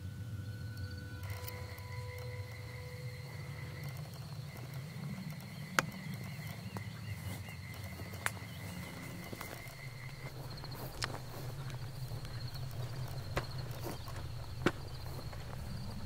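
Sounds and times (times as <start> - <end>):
crickets trilling: 0.0 - 16.0
low steady rumble: 0.0 - 16.0
sharp clicks: 0.8 - 16.0.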